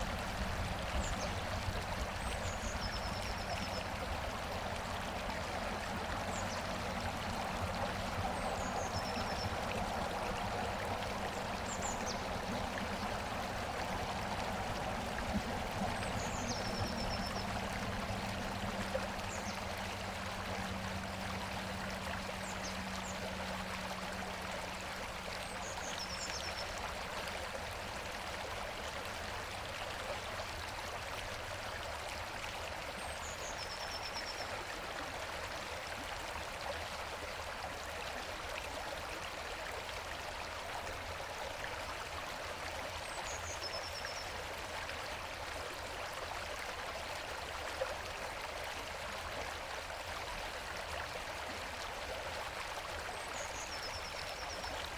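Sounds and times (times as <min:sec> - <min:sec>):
river water flowing over rocks: 0:00.0 - 0:54.9.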